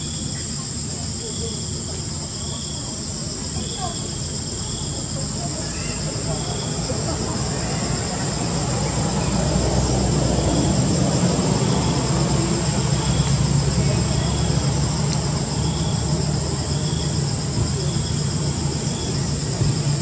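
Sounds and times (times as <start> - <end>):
insect chirp: 0.0 - 20.0
low engine-like drone: 0.0 - 20.0.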